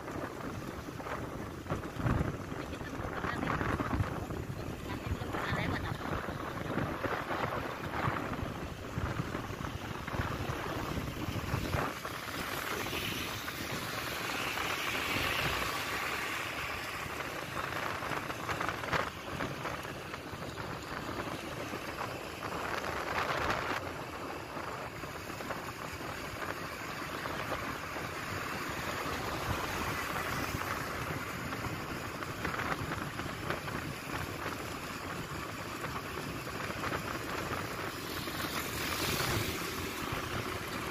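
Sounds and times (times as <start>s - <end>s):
motorbike road noise: 0.0s - 40.9s
wind buffeting microphone: 0.0s - 40.9s.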